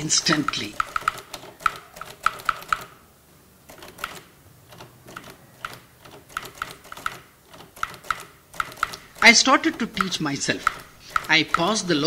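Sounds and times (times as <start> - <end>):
typewriter keys clacking: 0.0 - 2.9, 3.7 - 12.0.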